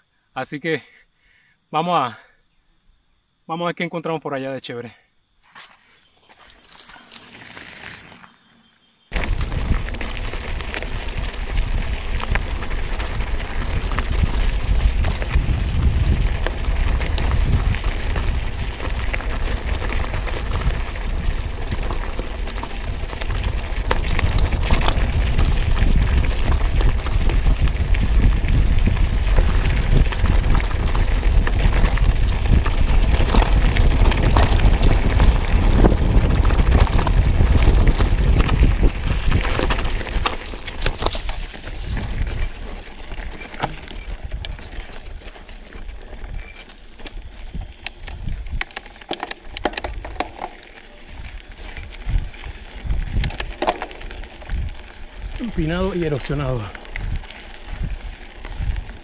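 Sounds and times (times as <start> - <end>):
bike tyres rolling over gravel: 5.5 - 59.0
stones and bike clicking: 5.5 - 59.0
wind buffeting the microphone: 9.1 - 48.8, 51.1 - 59.0.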